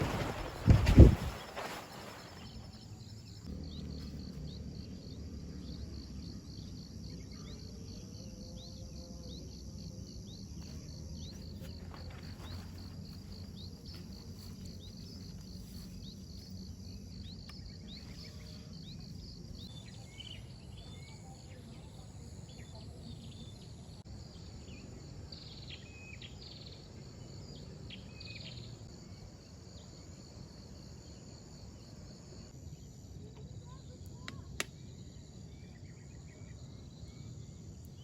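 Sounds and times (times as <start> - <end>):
insects trilling: 0.0 - 38.0
low background hum: 0.0 - 38.0.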